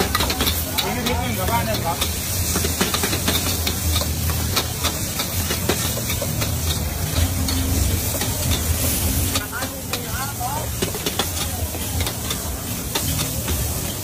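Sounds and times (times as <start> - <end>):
food sizzling in deep oil: 0.0 - 14.0
metal spatula scraping wok: 0.0 - 14.0.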